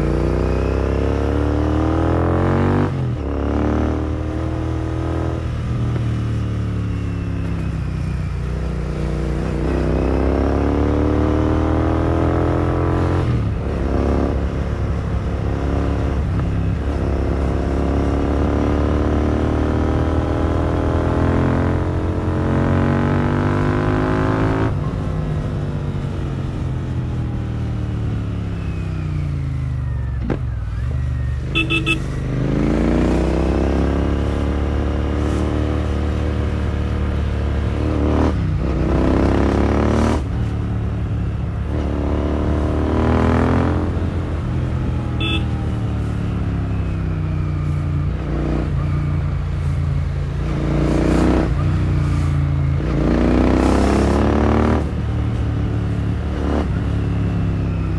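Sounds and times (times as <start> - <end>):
motorcycle engine revving: 0.0 - 29.4, 30.0 - 57.9.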